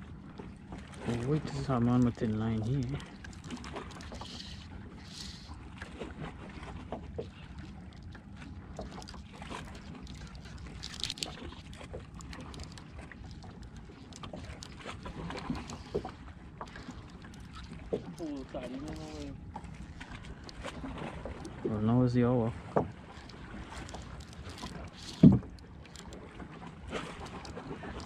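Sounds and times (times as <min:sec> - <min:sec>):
water lapping against boat hull: 0:00.0 - 0:28.0.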